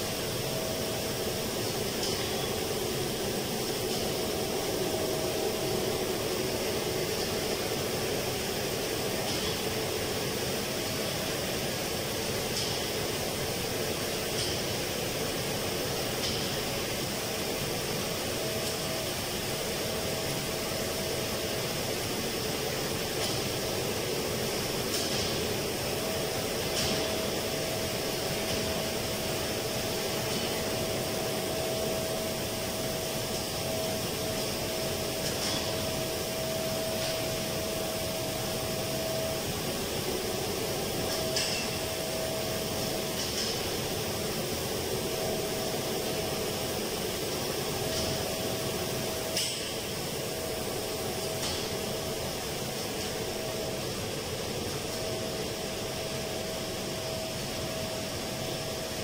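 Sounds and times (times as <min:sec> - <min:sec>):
air conditioning machinery hum: 0:00.0 - 0:59.0
faint steady whine: 0:00.0 - 0:59.0.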